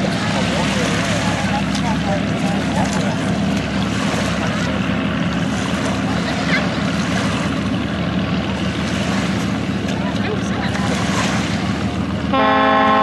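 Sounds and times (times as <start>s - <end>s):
aircraft engines running low: 0.0s - 13.0s
water washing along hull: 0.0s - 13.0s.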